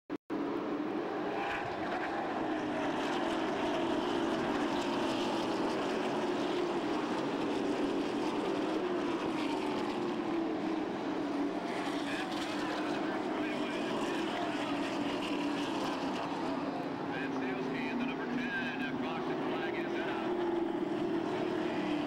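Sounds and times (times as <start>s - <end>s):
racing car engines droning: 0.3s - 22.0s.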